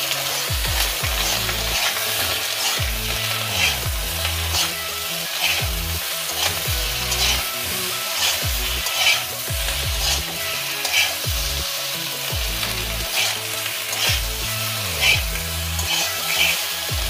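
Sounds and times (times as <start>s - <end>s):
metal spatula scraping a pan: 0.0s - 16.9s
potatoes sizzling in oil: 0.0s - 17.0s.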